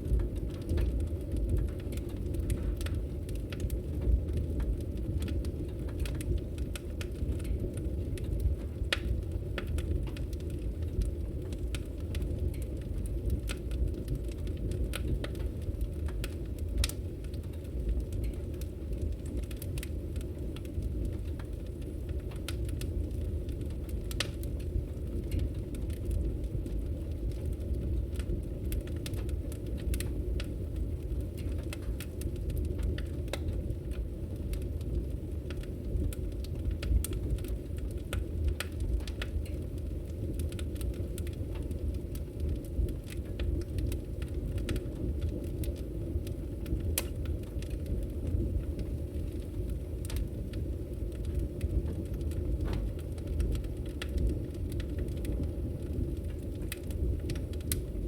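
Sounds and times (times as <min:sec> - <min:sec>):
burning wood crackling: 0:00.0 - 0:58.0
low rumble of flame: 0:00.0 - 0:58.0.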